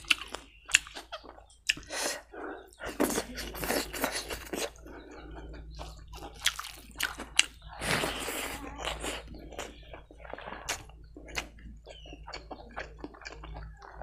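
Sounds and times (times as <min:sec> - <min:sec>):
wet mouth chewing and smacking: 0:00.0 - 0:14.0.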